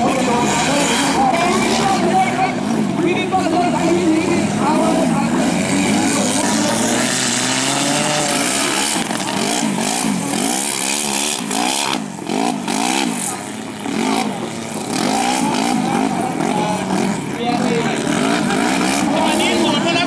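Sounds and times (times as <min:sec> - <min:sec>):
buggy engine revving hard: 0:00.0 - 0:20.0.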